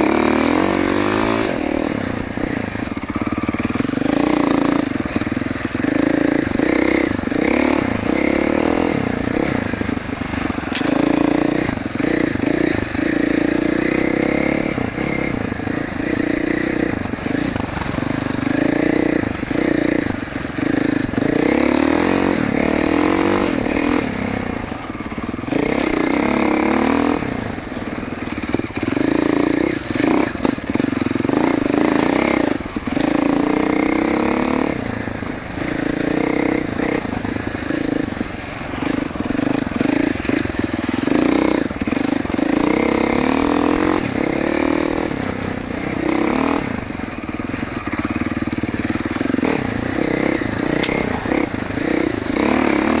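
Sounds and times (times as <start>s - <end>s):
motorcycle knocking on rough track: 0.0s - 45.2s, 46.0s - 53.0s
motorcycle engine revving: 0.0s - 53.0s.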